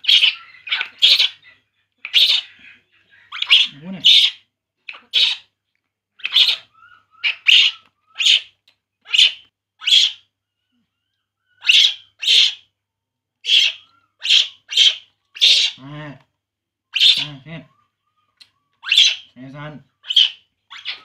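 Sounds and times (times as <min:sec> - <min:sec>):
baby monkey crying: 0:00.0 - 0:05.5, 0:06.2 - 0:08.5, 0:09.1 - 0:10.3, 0:11.4 - 0:12.7, 0:13.4 - 0:15.9, 0:16.9 - 0:21.0.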